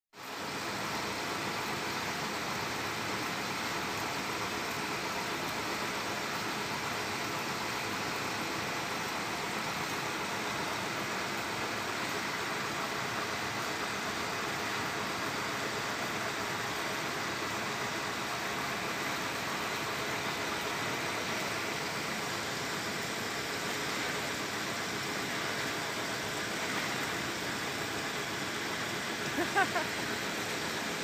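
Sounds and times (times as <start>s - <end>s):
truck engine running steadily: 0.2s - 31.0s.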